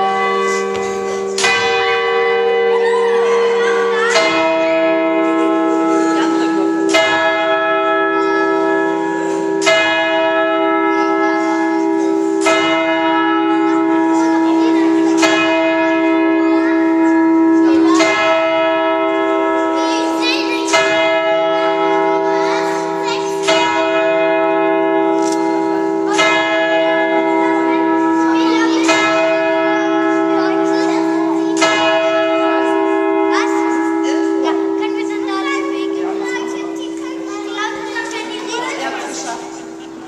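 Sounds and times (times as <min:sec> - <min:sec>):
church bells ringing: 0:00.0 - 0:40.0.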